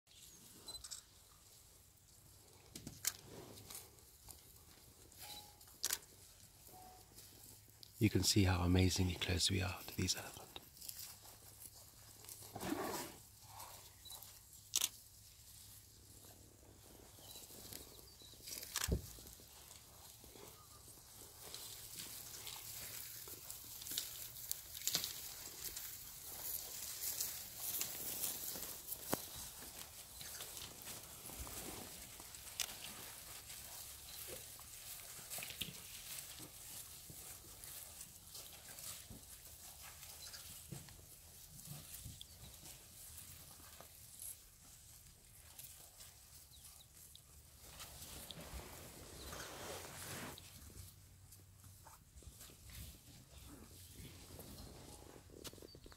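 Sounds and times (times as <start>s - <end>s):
elephant footsteps on dry grass: 0.1s - 55.9s.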